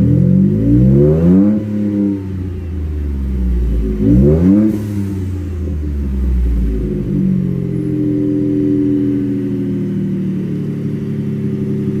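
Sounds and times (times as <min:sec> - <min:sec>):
truck engine idling: 0:02.3 - 0:12.0.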